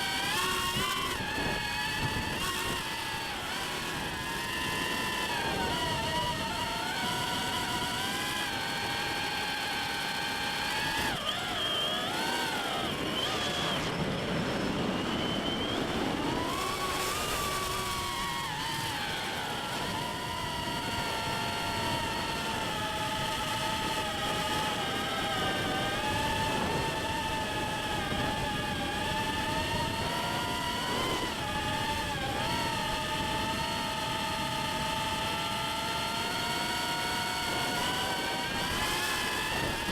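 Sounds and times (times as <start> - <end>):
drone motors and propellers whining: 0.0 - 39.9.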